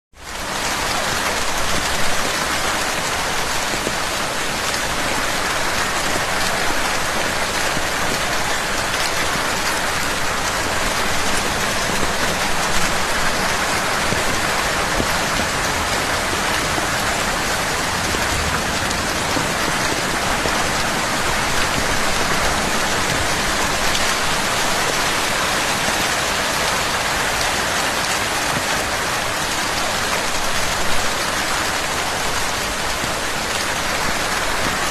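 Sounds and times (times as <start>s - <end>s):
heavy rain pattering: 0.1s - 34.9s.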